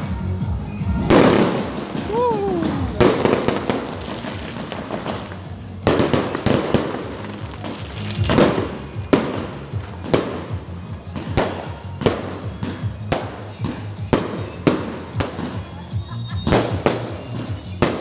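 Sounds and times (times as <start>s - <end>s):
fireworks crackling: 0.9s - 18.0s
fireworks bangs: 1.0s - 18.0s.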